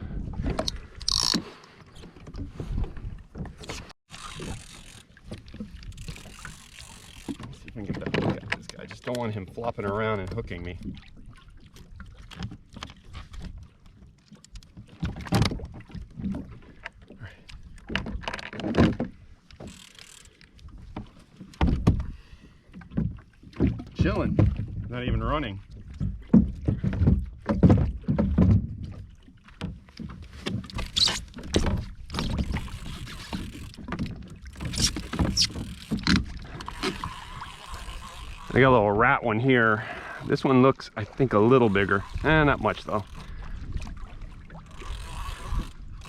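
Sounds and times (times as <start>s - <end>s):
knocks and rustles on a kayak: 0.0s - 39.2s
water around hull: 0.0s - 46.0s.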